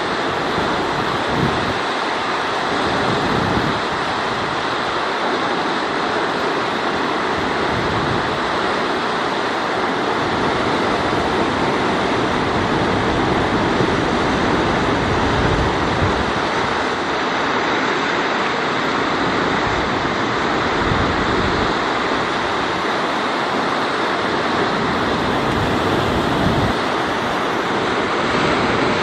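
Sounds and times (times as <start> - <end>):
river rapids rushing: 0.0 - 29.0.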